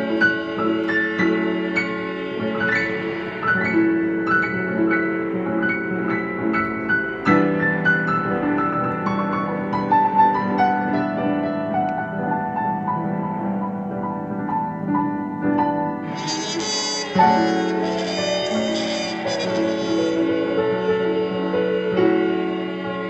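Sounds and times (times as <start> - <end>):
solo piano playing: 0.0 - 23.0.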